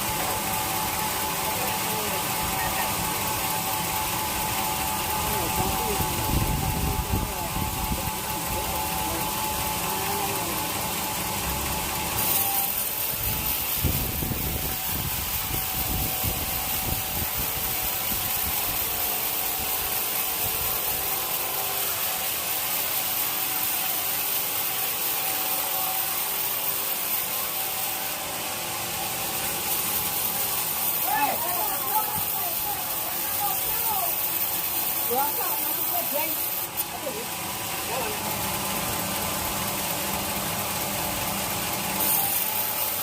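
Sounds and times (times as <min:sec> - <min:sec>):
saw cutting wood: 0:00.0 - 0:43.0.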